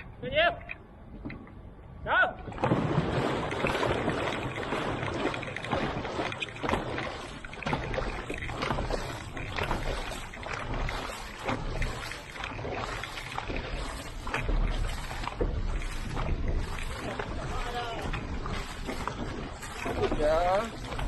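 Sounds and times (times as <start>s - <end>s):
paddles splashing water: 0.0s - 21.0s
water rushing along hull: 0.0s - 21.0s.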